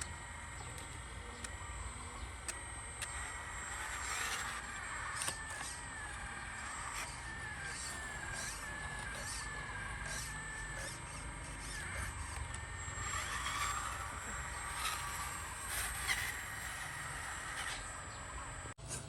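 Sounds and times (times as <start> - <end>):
small electric motor whining: 0.0 - 19.0.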